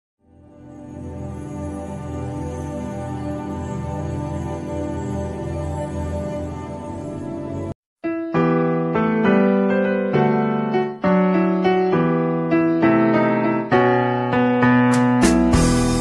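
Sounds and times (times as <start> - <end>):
piano-like keyboard chords: 0.3 - 16.0.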